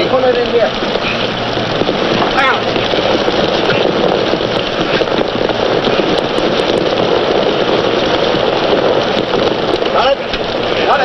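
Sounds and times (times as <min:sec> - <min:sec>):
wind and rain rushing: 0:00.0 - 0:11.0.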